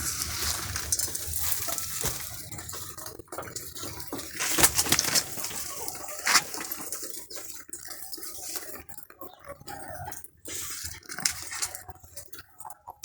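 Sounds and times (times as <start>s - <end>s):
water splashing and trickling: 0.0s - 12.6s.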